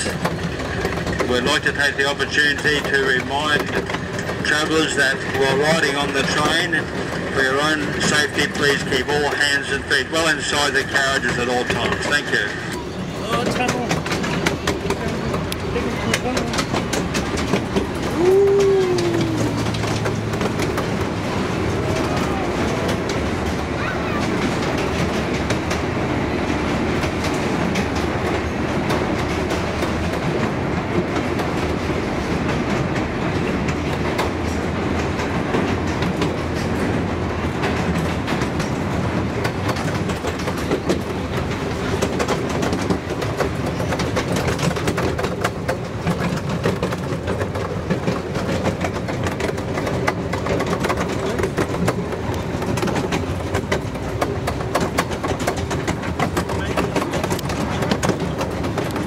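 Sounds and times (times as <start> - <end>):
clicks over rail joints: 0.0 - 59.0
train wheels rumbling on track: 0.0 - 59.0.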